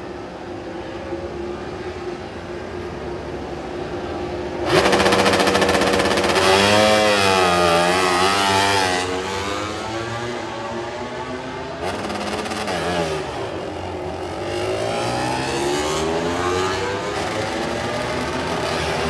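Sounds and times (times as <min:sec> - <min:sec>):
race motorcycle engines revving: 0:00.0 - 0:19.0.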